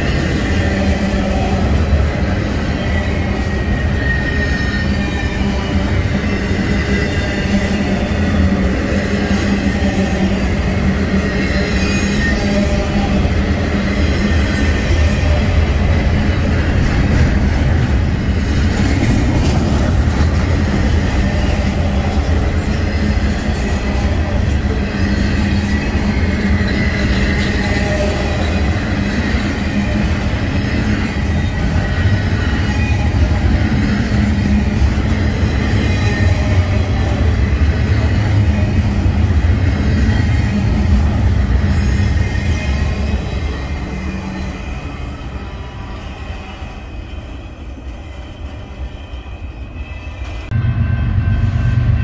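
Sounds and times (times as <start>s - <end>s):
freight train wheels rumbling on rails: 0.0s - 52.0s.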